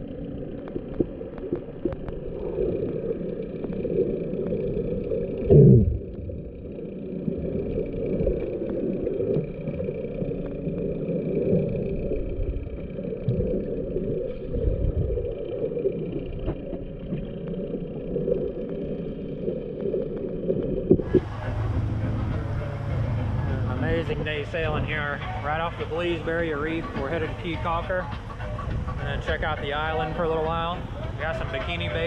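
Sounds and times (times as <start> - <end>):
faint high hum: 0.0 - 32.0
underwater rumble and sloshing: 0.0 - 32.0.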